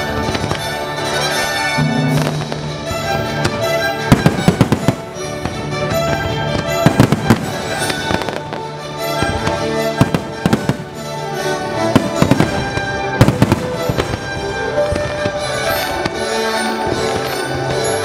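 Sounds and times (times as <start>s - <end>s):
fireworks bursting: 0.0s - 18.0s
show music with held notes: 0.0s - 18.0s.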